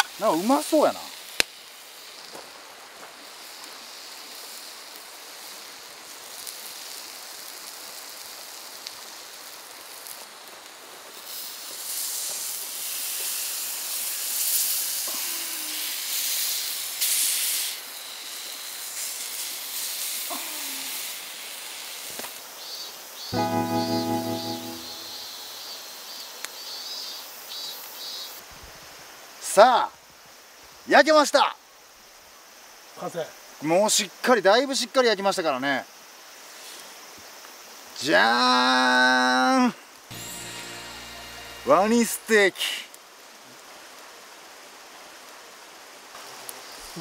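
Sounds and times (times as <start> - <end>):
meat sizzling on griddle: 0.0 - 28.4, 32.9 - 47.0.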